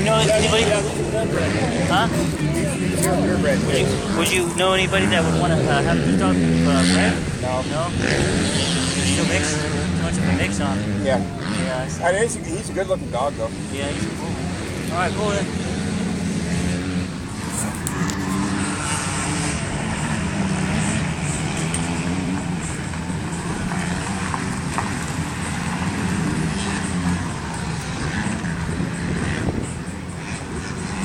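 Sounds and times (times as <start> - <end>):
vehicle engines running: 0.0 - 31.0.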